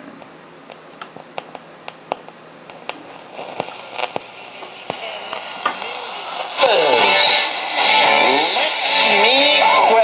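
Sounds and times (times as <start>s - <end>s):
radio crackling and popping: 0.2s - 10.0s
radio static hiss: 1.2s - 10.0s.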